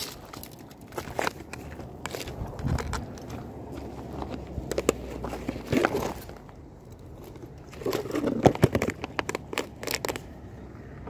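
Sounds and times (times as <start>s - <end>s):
bag rustling and crinkling: 0.0s - 10.3s.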